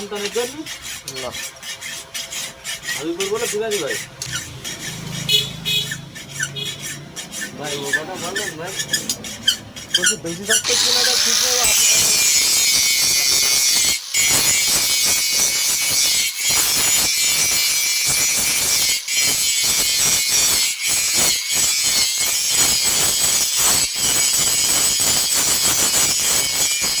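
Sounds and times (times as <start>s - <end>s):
tool grinding metal: 0.0s - 27.0s.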